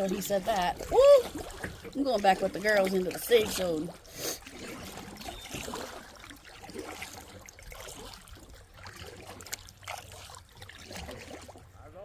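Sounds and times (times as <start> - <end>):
kayak paddle splashing water: 0.0 - 12.0.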